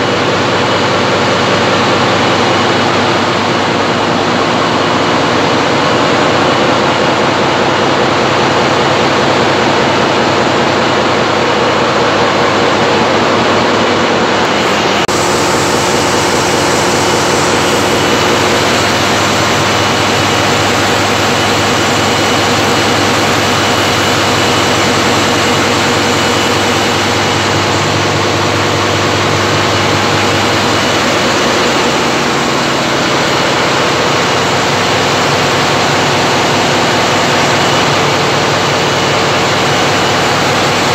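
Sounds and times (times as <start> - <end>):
diesel generator engines running: 0.0 - 40.9.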